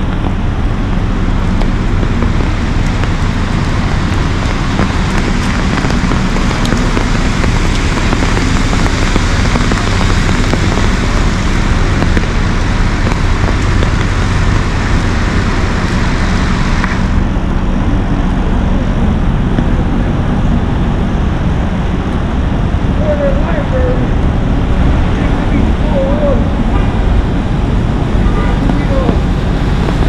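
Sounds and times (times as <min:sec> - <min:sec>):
rain hissing on street: 0:00.0 - 0:30.0
traffic rumble and hum: 0:00.0 - 0:30.0.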